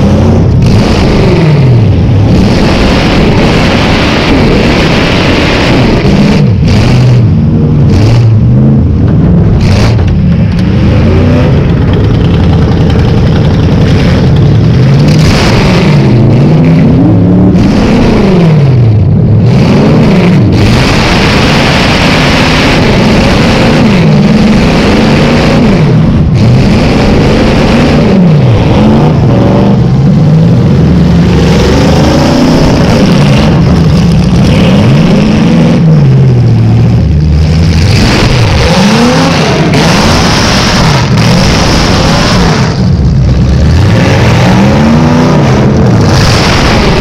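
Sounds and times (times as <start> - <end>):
loud car engine revving: 0.0 - 47.0.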